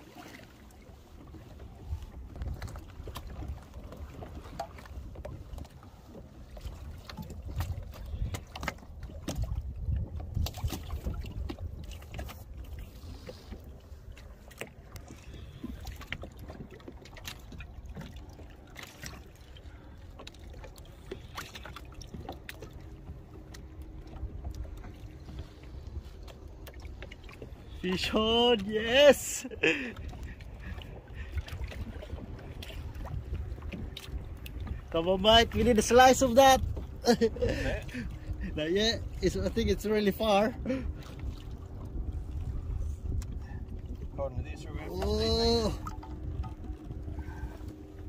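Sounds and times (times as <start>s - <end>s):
water slapping kayak hull: 0.0s - 48.0s
wind buffeting microphone: 1.0s - 18.3s, 21.0s - 48.0s.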